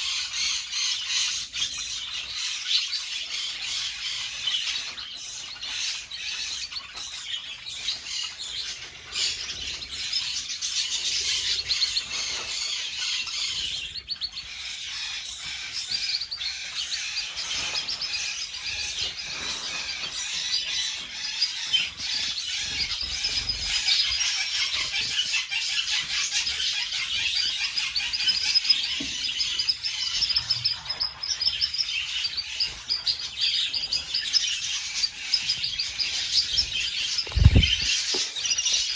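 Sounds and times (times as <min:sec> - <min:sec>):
canaries chirping and singing: 0:00.0 - 0:38.9.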